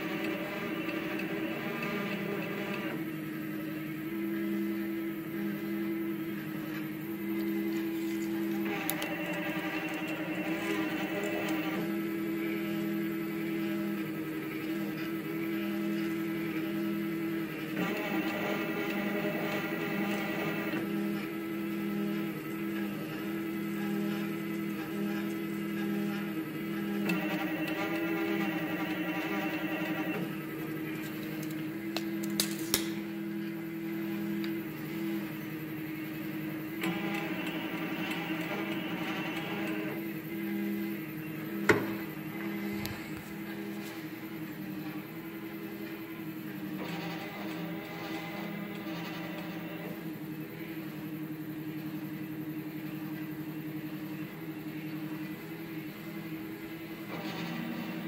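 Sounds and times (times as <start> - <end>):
stepper motors humming: 0.0 - 58.0.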